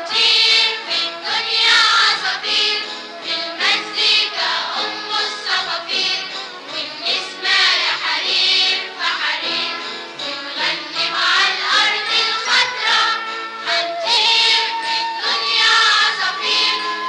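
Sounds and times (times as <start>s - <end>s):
children's choir singing: 0.0s - 17.0s
musical accompaniment: 0.0s - 17.0s.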